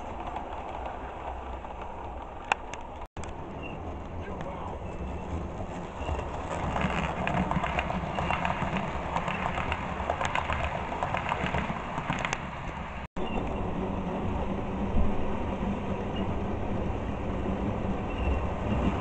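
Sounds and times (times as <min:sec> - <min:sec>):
wheels clicking over track: 0:00.0 - 0:19.0.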